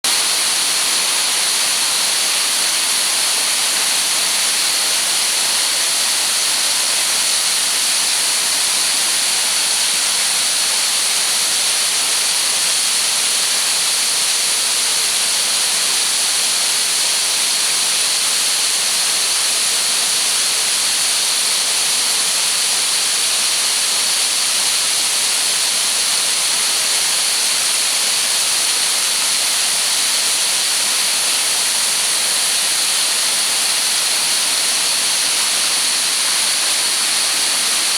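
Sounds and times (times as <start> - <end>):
waterfall pouring and crashing: 0.0 - 37.9.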